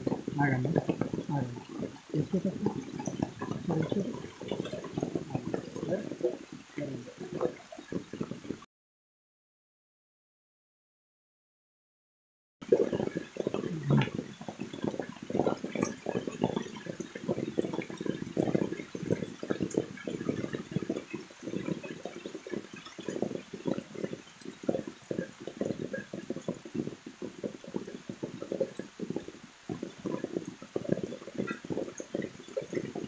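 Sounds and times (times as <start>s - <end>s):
water splashing and gurgling: 0.0s - 8.6s, 12.6s - 33.0s.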